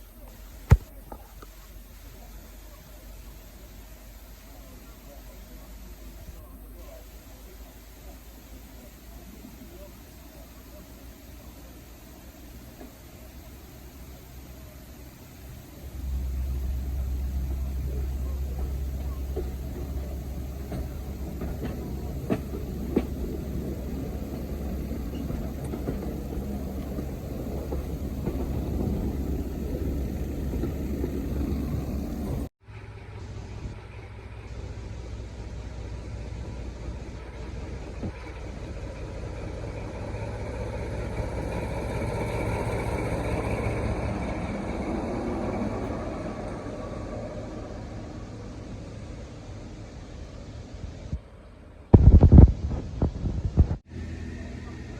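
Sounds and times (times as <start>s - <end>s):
diesel locomotive engine rumbling: 0.0s - 54.9s.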